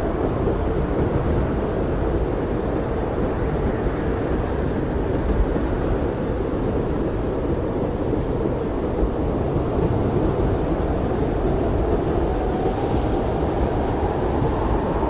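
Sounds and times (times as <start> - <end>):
blizzard wind blowing: 0.0 - 15.0
faint wind whistling: 0.0 - 15.0.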